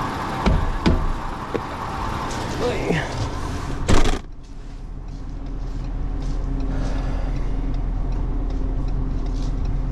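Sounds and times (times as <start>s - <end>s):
car engine and road noise: 0.0s - 9.9s.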